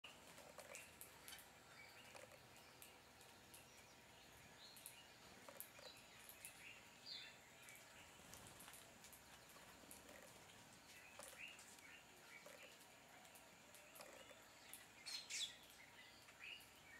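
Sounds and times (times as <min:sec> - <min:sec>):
birds chirping: 0:00.0 - 0:16.9
small high ticks: 0:00.1 - 0:16.8.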